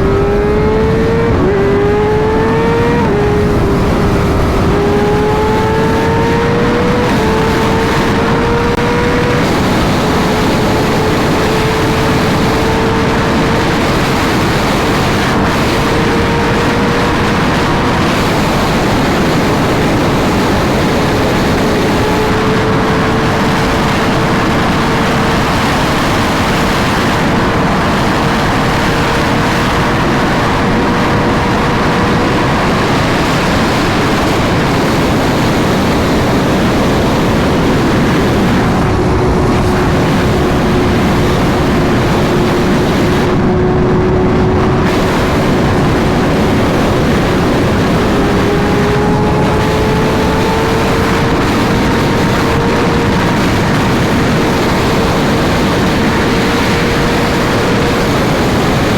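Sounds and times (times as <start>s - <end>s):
motorcycle engine: 0.0s - 58.9s
wind rush on microphone: 0.0s - 58.9s.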